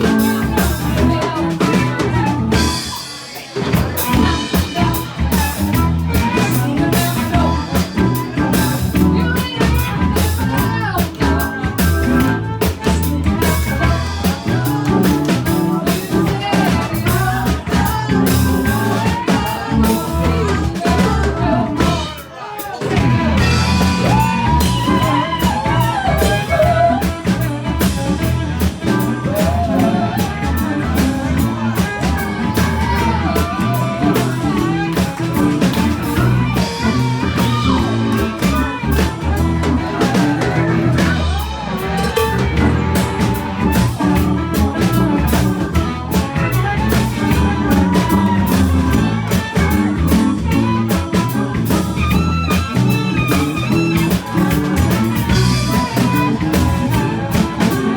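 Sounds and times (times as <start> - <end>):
blues band playing: 0.0 - 57.9
drum kit beat: 0.0 - 57.9
guitar: 0.0 - 57.9.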